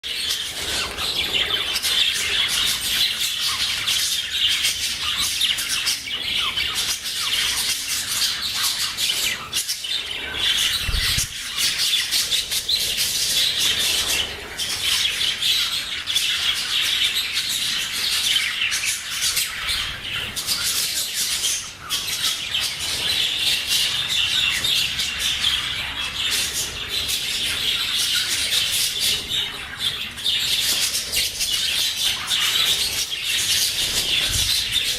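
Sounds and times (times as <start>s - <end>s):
budgerigars chattering and warbling: 0.0s - 34.9s.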